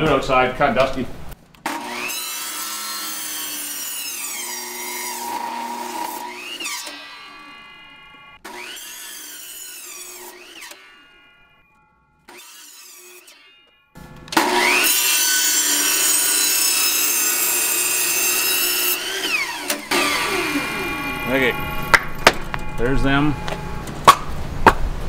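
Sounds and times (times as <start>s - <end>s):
chop saw motor spinning: 1.6s - 24.4s
saw blade cutting log: 1.7s - 11.4s, 12.3s - 13.7s, 14.4s - 24.8s.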